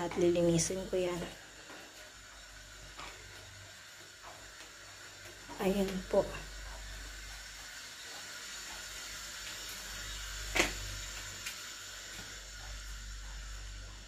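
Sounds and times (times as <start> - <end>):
running water hiss: 0.0 - 14.0.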